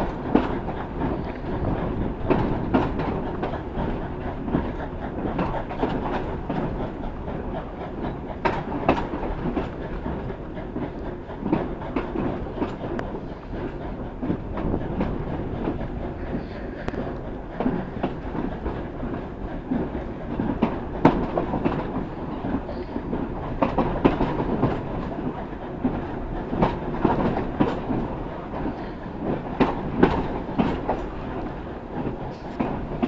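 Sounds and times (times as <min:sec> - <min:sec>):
train carriages rumbling on track: 0:00.0 - 0:33.0
wheels clicking over rail joints: 0:00.0 - 0:33.0.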